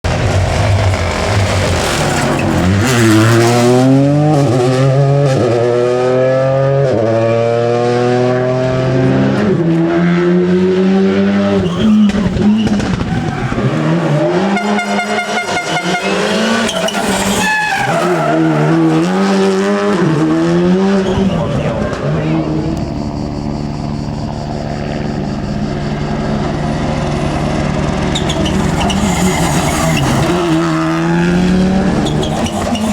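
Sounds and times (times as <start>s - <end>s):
rally car engine accelerating: 0.0s - 32.9s.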